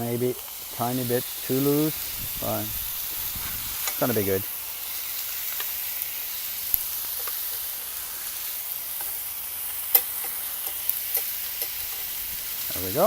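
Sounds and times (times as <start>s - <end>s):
burger patties sizzling in a pan: 0.0s - 13.0s.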